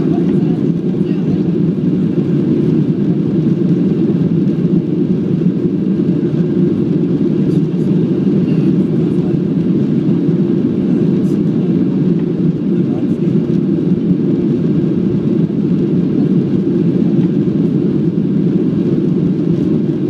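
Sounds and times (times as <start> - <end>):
airplane cabin roar: 0.0 - 20.0.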